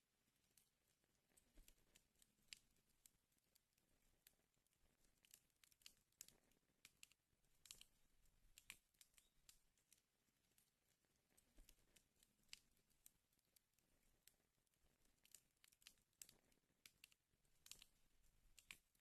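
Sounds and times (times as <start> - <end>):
wood fire crackling: 0.3 - 19.0.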